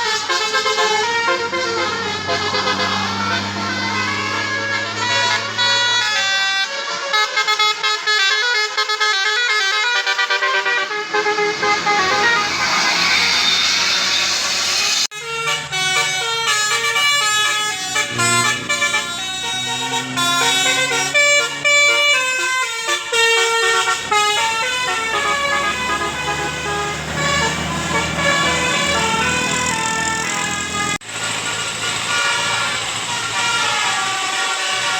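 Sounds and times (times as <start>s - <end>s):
musical air horn tune: 0.0s - 34.9s.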